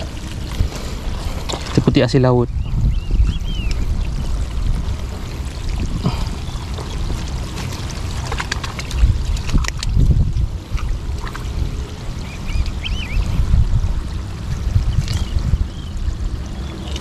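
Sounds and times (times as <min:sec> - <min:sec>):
low rumble: 0:00.0 - 0:17.0
seawater sloshing and trickling: 0:00.0 - 0:17.0.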